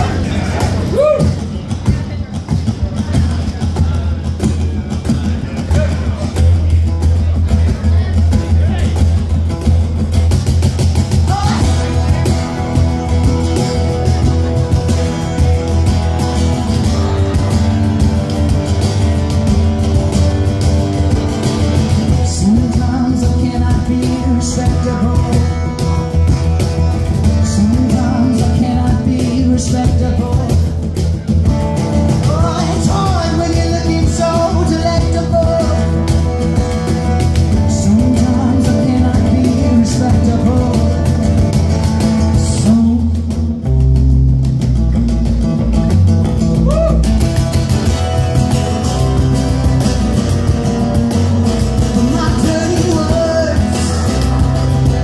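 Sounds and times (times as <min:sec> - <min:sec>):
acoustic guitars: 0:00.0 - 0:55.0
bass line: 0:00.0 - 0:55.0.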